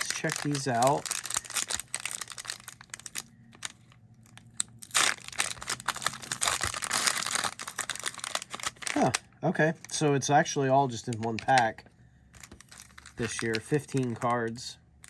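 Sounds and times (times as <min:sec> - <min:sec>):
cellophane wrapper crinkling: 0:00.0 - 0:10.0, 0:10.9 - 0:14.6.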